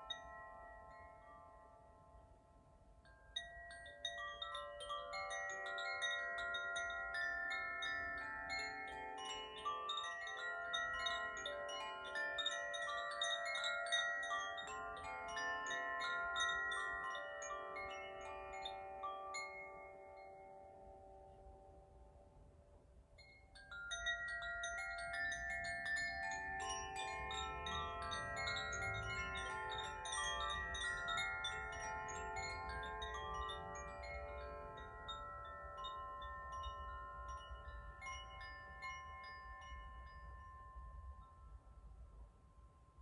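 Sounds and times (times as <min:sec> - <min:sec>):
wind chimes ringing: 0:00.0 - 0:43.0.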